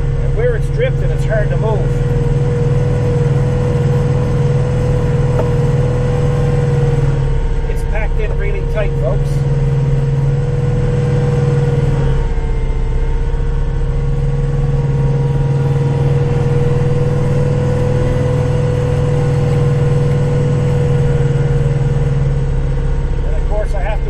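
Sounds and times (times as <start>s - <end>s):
steady whine: 0.0s - 24.0s
tractor diesel engine under load: 0.0s - 24.0s.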